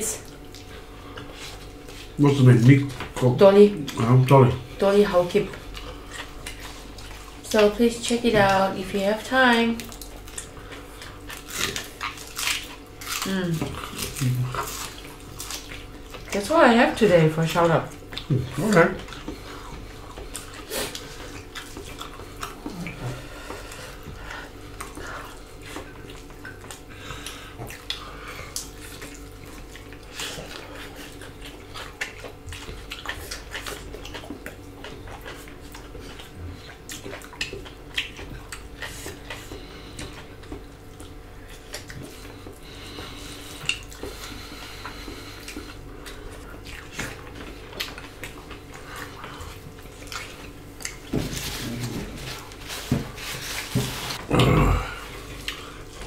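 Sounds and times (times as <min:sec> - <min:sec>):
faint steady hum: 0:00.0 - 0:56.0
wet chewing and mouth clicks: 0:00.2 - 0:56.0.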